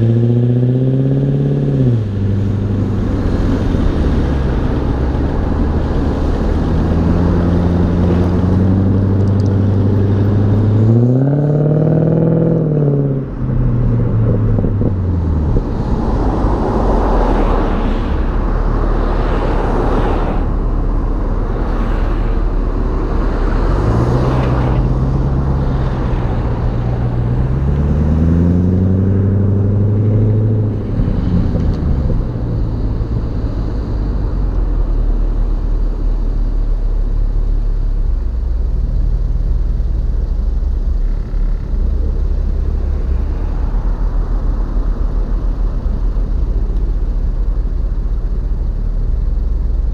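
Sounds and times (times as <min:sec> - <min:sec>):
car exhaust accelerating: 0:00.0 - 0:49.9
road noise: 0:00.0 - 0:49.9
rushing wind: 0:00.0 - 0:49.9.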